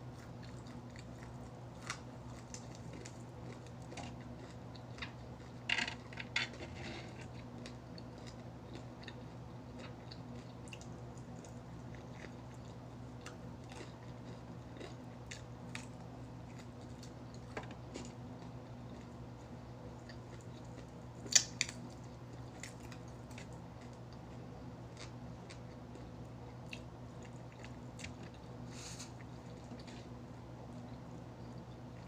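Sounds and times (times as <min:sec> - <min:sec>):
crunching and chewing fried chicken: 0:00.0 - 0:32.0.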